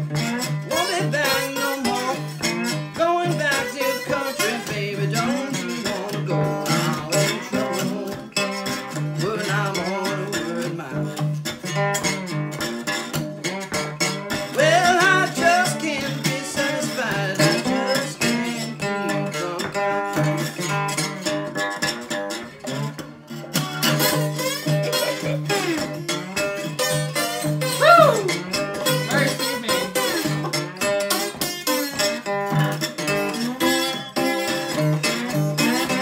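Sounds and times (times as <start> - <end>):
slide acoustic guitar blues: 0.0 - 36.0.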